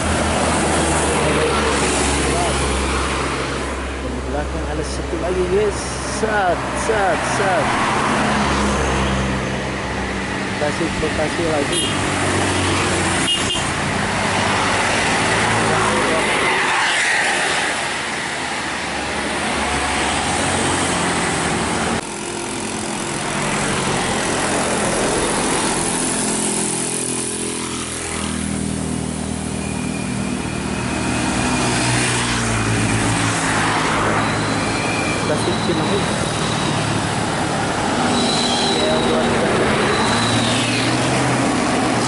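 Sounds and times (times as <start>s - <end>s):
bus passing: 0.0s - 42.0s
motorcycles passing: 0.0s - 42.0s.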